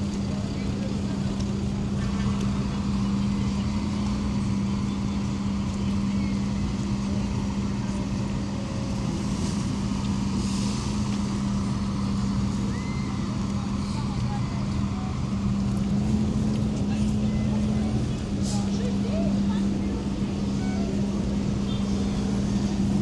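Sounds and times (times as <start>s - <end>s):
large engine humming: 0.0s - 23.0s
street and traffic noise: 0.0s - 23.0s.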